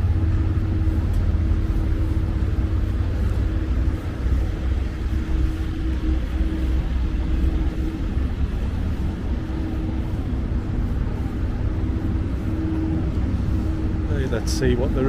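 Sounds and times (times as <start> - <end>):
city background rumble: 0.0 - 15.0
faint steady hum: 0.0 - 15.0.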